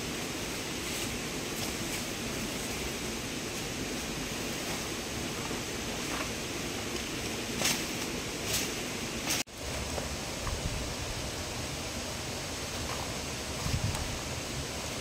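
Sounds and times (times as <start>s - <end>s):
steady rushing outdoor noise: 0.0s - 15.0s.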